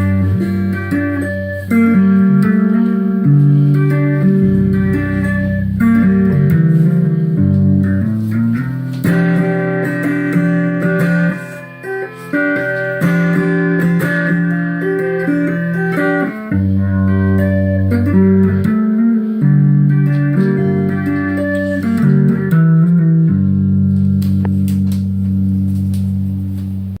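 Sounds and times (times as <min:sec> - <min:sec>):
clean electric guitar chords: 0:00.0 - 0:27.0.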